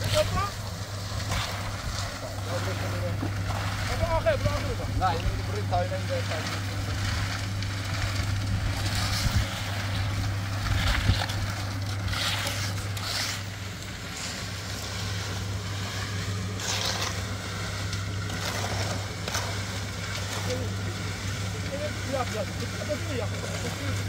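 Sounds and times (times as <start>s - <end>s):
concrete mixer engine running: 0.0s - 24.0s
trowel scraping wet concrete: 0.0s - 24.0s.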